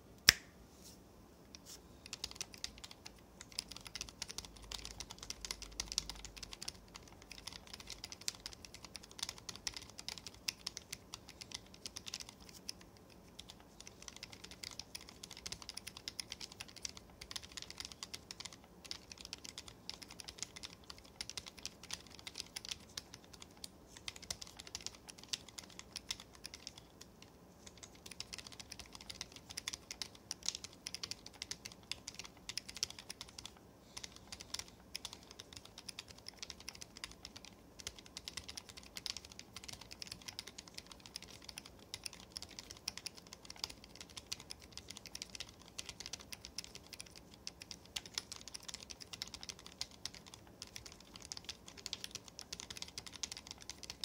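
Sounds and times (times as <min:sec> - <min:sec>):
typing on mechanical keyboard: 0:02.0 - 0:54.0.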